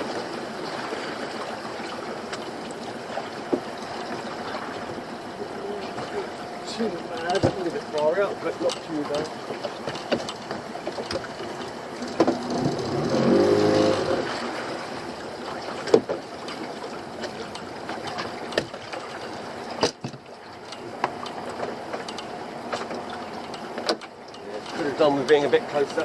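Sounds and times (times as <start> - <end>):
knocks and clunks on boat: 0.0 - 26.0
small boat engine running: 0.0 - 26.0.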